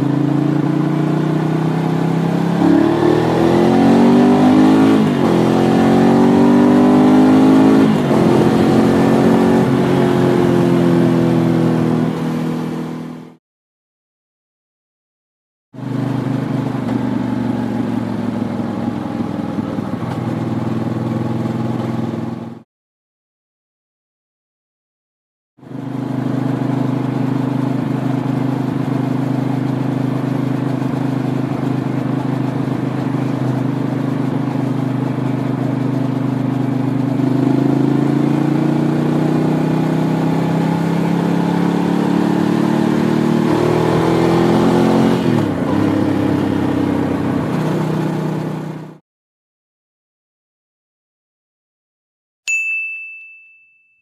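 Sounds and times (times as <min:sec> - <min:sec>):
motorcycle engine accelerating: 0:00.0 - 0:13.4, 0:15.8 - 0:22.6, 0:25.6 - 0:49.0.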